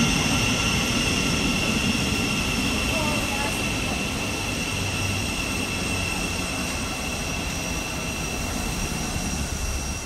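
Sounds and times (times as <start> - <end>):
high constant ringing tone: 0.0 - 10.0
train rushing rumble: 0.0 - 10.0.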